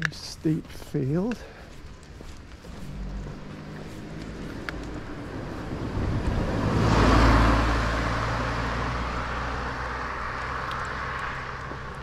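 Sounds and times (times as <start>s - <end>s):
car passing: 1.2s - 12.0s.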